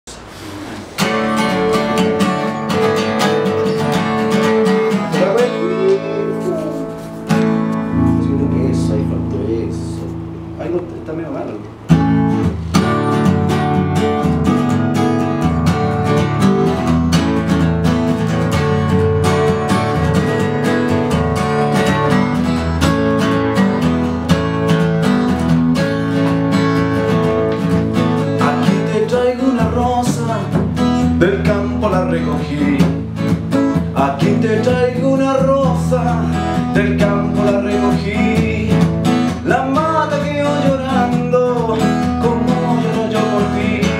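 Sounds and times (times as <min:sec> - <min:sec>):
acoustic guitar strumming: 0:00.1 - 0:43.9.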